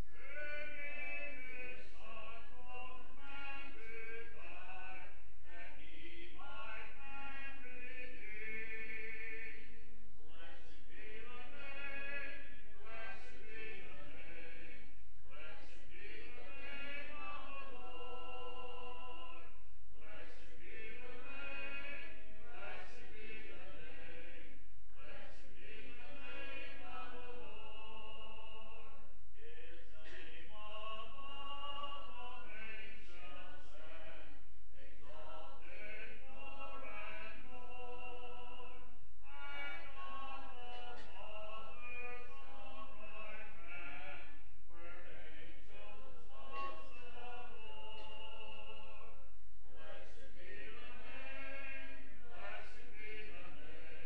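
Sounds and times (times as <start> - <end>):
congregation singing a hymn: 0.0 - 9.7, 10.3 - 54.0.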